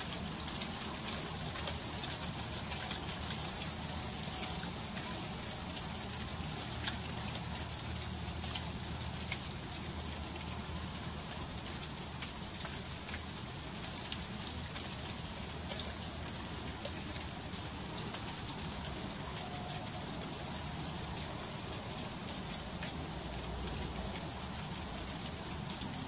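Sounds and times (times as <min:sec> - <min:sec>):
freezing rain on icy surfaces: 0:00.0 - 0:26.0.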